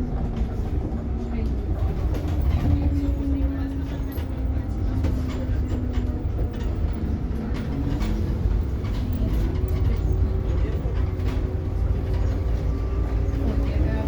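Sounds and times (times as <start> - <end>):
bus body clicks and rattles: 0.0 - 14.0
bus engine and road rumble: 0.0 - 14.0.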